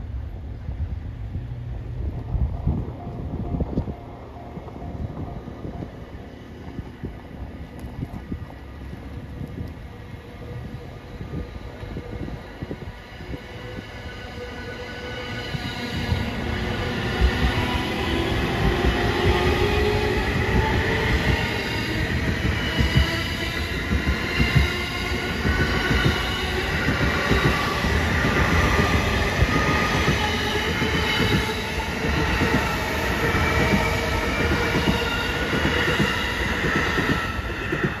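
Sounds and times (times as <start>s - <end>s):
train wheels rumbling over rails: 6.6s - 38.0s.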